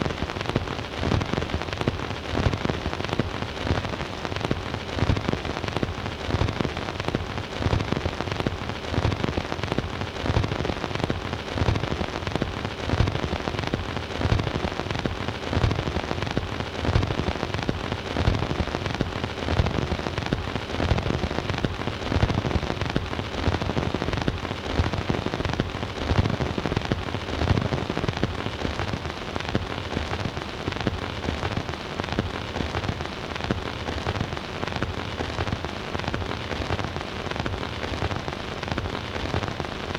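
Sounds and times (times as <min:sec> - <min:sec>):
record crackle and pops: 0:00.0 - 0:39.9
record surface hiss: 0:00.0 - 0:39.9.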